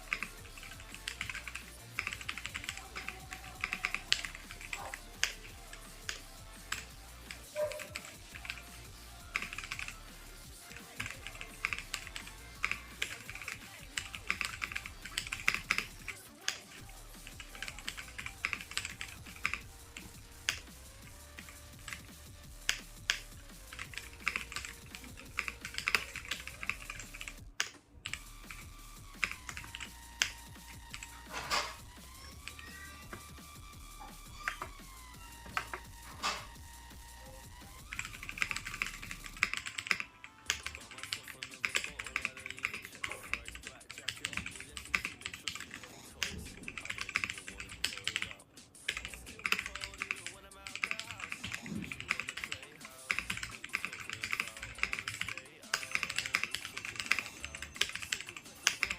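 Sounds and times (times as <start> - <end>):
mechanical keyboard typing: 0.0 - 33.4, 34.1 - 34.8, 35.4 - 36.6, 37.2 - 58.9.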